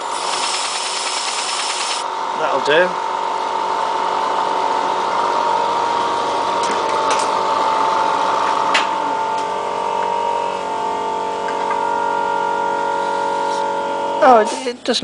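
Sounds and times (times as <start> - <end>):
milling machine whine: 0.0 - 14.8.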